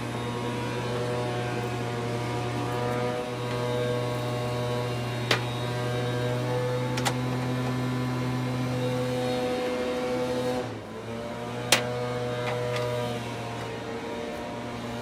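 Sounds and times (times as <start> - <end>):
electrical appliance humming: 0.0 - 15.0.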